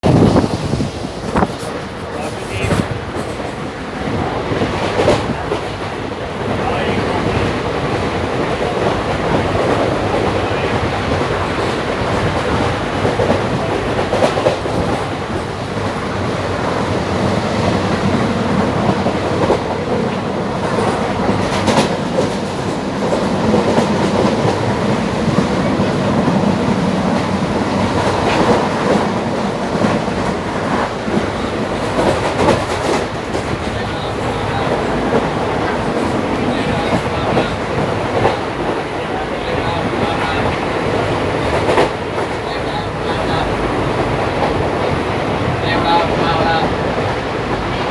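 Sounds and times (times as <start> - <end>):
train running rumble: 0.0 - 47.9
wheels clickety-clack on rail joints: 0.0 - 47.9.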